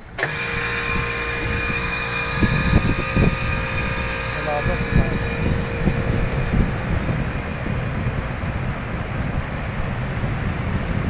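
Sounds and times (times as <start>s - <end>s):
air conditioner fans rumbling: 0.0s - 11.0s
wind buffeting microphone: 0.3s - 11.0s.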